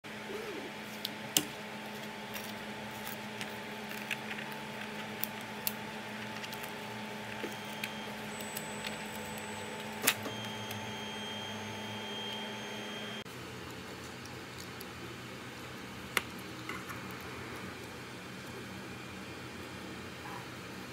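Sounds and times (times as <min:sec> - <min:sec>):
printer fan hum: 0:00.1 - 0:20.9.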